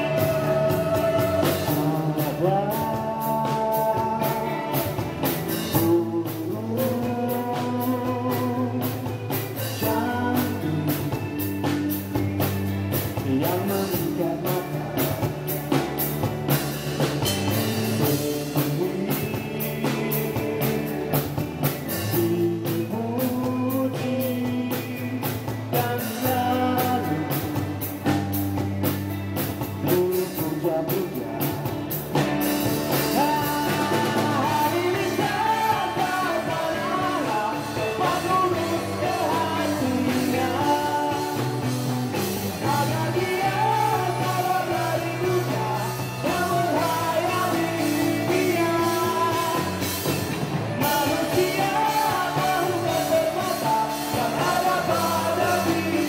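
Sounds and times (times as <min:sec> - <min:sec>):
person singing: 0:00.0 - 0:16.6, 0:17.3 - 0:28.4, 0:29.6 - 0:56.0
drums steady beat: 0:00.0 - 0:56.0
live rock band playing: 0:00.0 - 0:56.0.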